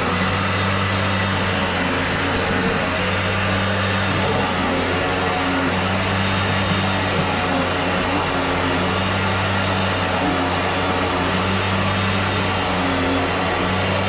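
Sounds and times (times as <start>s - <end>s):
motor humming steadily: 0.0s - 14.0s.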